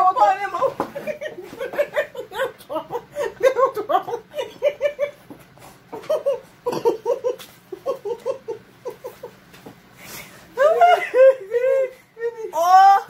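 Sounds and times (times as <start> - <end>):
women laughing hard: 0.6 - 5.3, 5.9 - 9.4, 10.6 - 13.0.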